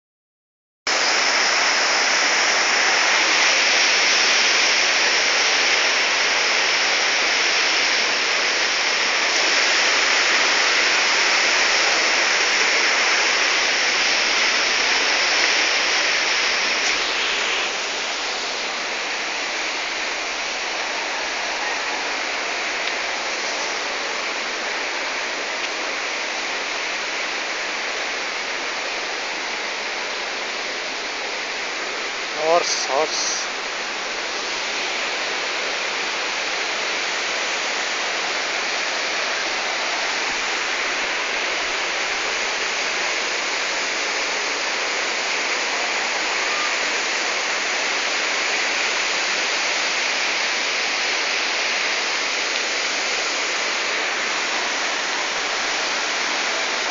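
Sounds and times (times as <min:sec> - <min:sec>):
water rushing: 0:00.9 - 0:56.9.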